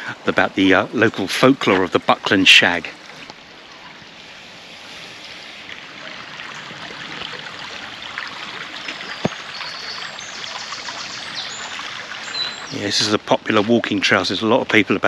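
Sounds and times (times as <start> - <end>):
brook trickling and babbling: 0.0 - 15.0.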